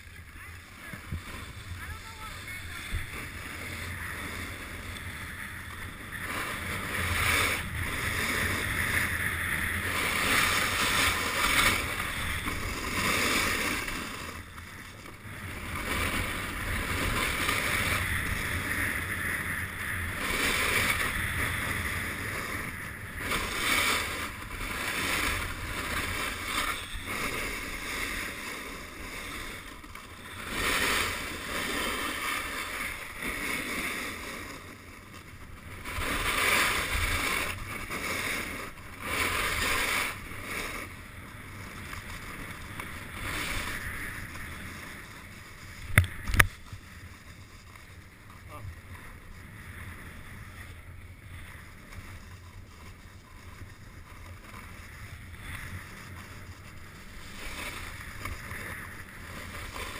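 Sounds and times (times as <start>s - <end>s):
snowboard scraping over snow: 0.0s - 59.9s
wind rumbling on microphone: 0.0s - 59.9s.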